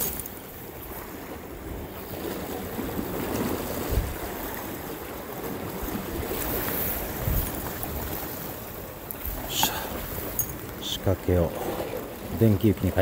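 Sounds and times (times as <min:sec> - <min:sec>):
wind rumbling on microphone: 0:00.0 - 0:10.8
sea waves washing against rocks: 0:00.0 - 0:13.0.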